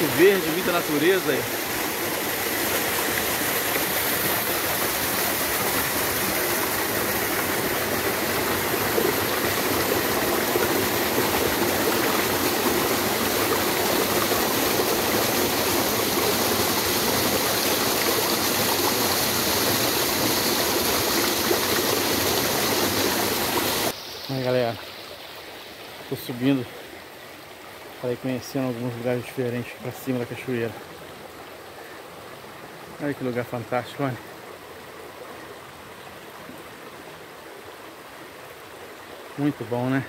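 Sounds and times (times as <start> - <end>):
stream splashing over rocks: 0.0 - 40.0.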